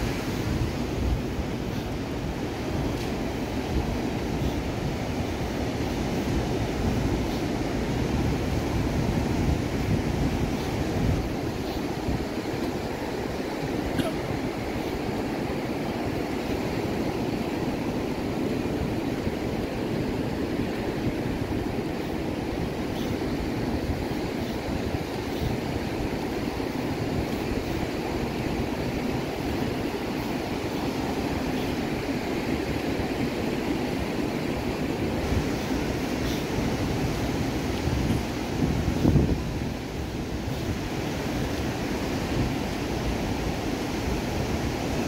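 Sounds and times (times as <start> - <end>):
ocean surf breaking on shore: 0.0 - 45.0
wind rumbling on microphone: 0.0 - 45.0.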